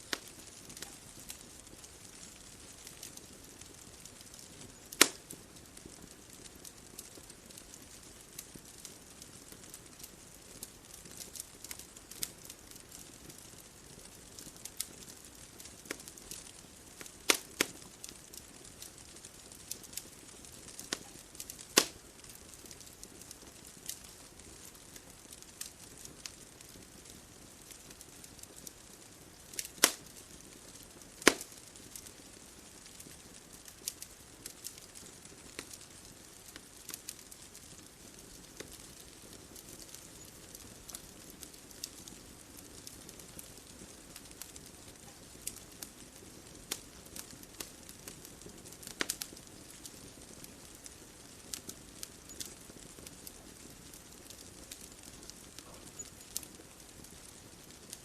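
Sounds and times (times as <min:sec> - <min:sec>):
bonfire crackling and popping: 0:00.0 - 0:58.0
faint steady hiss: 0:00.0 - 0:58.0.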